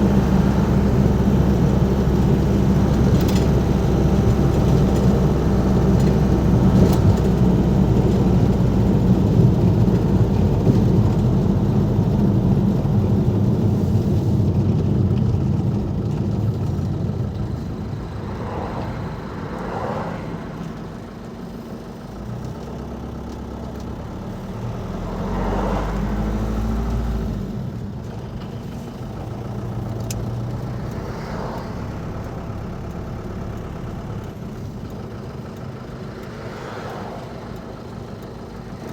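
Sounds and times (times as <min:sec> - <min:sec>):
diesel van engine running: 0:00.0 - 0:38.9.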